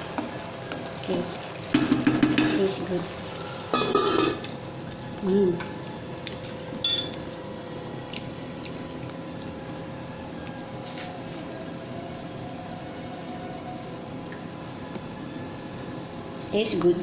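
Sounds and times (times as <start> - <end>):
steady hum with high tone: 0.0 - 17.0.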